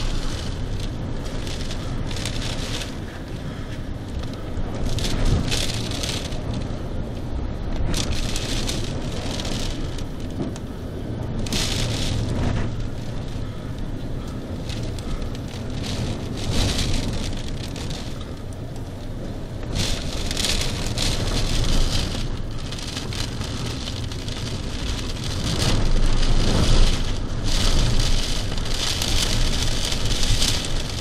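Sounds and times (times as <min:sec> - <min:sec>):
heavy rain beating on window: 0:00.0 - 0:31.0
storm wind: 0:00.0 - 0:31.0.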